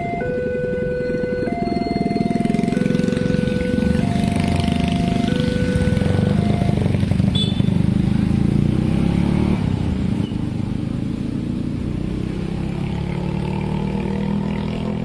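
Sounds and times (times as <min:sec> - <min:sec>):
road traffic engines: 0:00.0 - 0:15.0.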